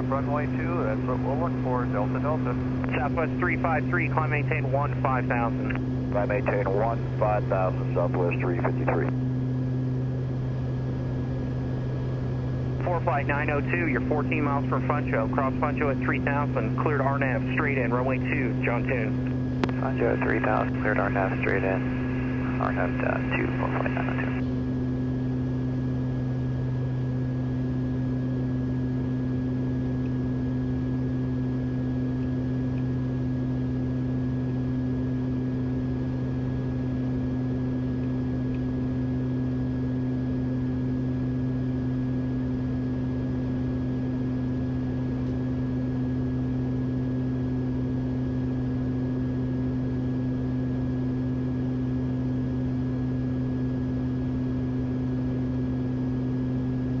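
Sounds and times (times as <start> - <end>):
faint high whine: 0.0 - 57.0
propeller drone: 0.0 - 57.0.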